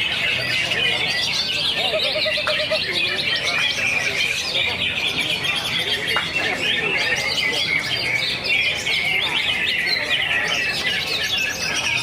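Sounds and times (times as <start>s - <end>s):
bird singing rapid chirps and trills: 0.0s - 12.0s.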